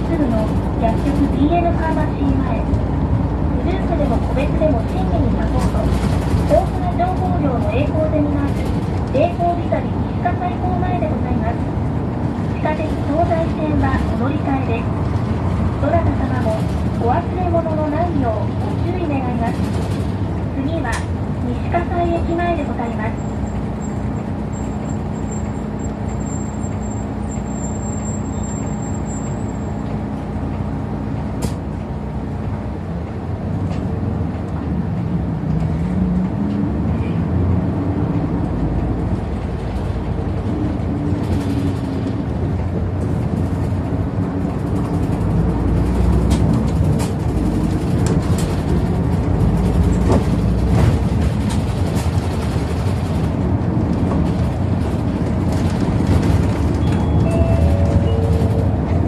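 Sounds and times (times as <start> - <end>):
bus engine: 0.0 - 59.0
road noise: 0.0 - 59.0.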